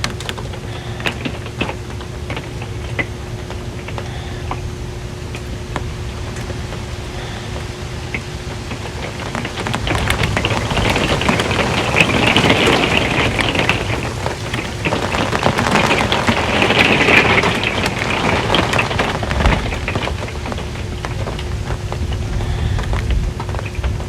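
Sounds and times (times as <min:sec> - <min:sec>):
rain drumming on a metal roof: 0:00.0 - 0:24.0.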